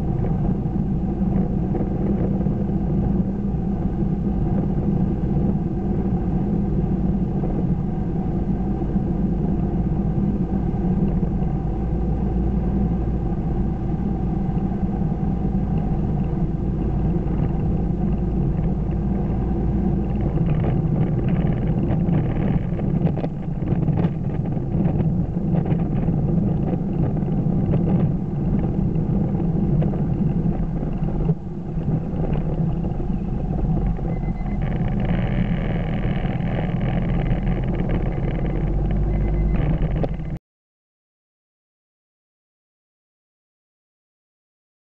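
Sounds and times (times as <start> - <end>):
car engine and road noise: 0.0 - 40.4.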